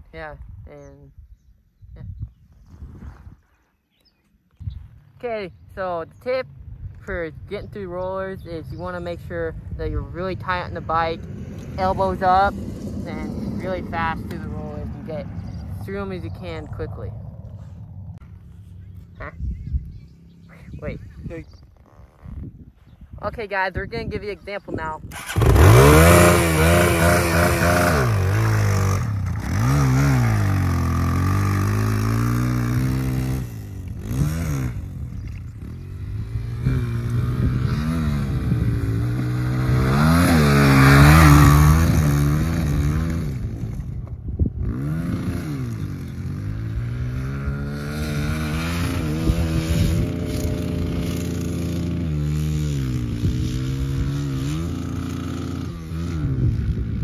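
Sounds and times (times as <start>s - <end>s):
dirt bike engine revving: 5.2s - 19.4s, 25.1s - 57.0s.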